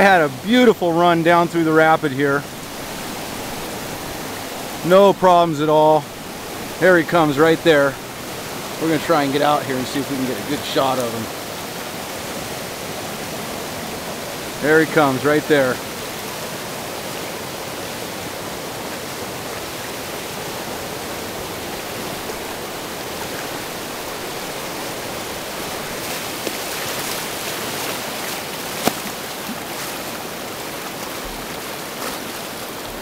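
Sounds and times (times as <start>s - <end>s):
water splashes: 0.0s - 33.0s
whitewater rushing: 0.0s - 33.0s.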